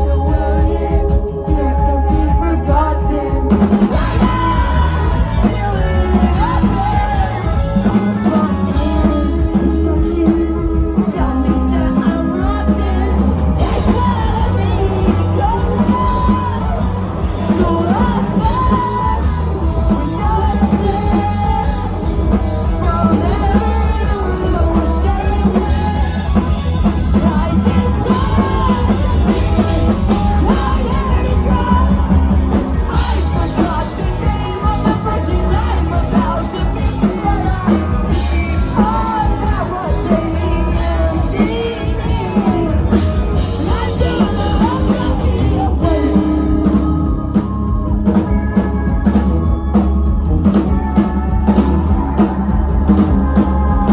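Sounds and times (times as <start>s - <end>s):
person singing lead vocal: 0.0s - 53.9s
rock band playing live: 0.0s - 53.9s.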